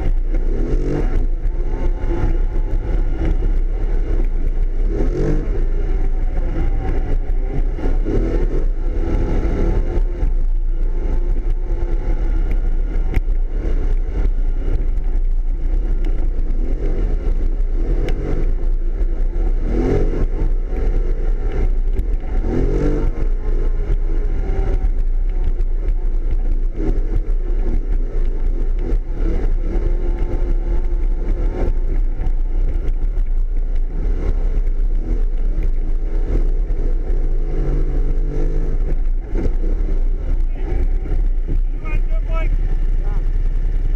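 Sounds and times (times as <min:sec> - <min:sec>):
all-terrain vehicle engine running: 0:00.0 - 0:43.9.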